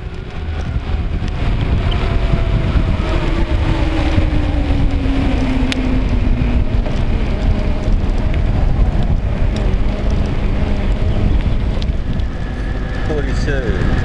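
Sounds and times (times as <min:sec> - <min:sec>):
faint low hum falling in pitch: 0:00.0 - 0:14.0
heavy low rumble: 0:00.0 - 0:14.0
wind noise on microphone: 0:00.0 - 0:14.0.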